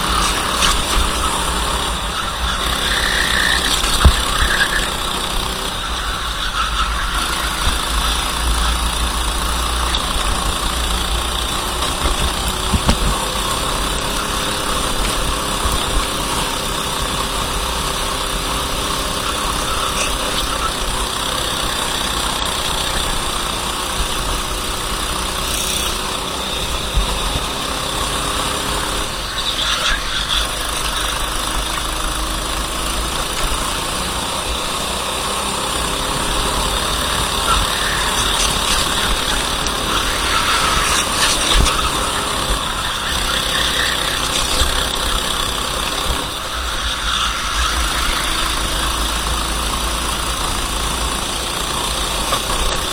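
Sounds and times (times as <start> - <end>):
kart engine running: 0.0 - 52.9.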